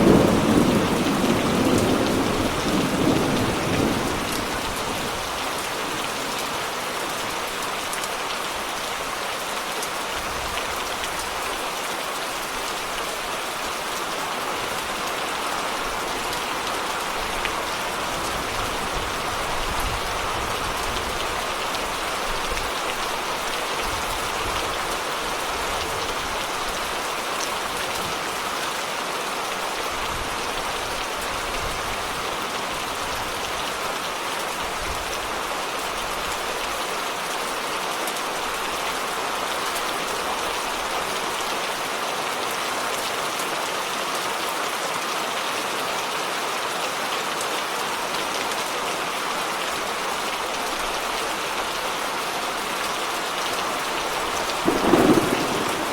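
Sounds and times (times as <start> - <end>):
steady rain hissing: 0.0 - 55.9.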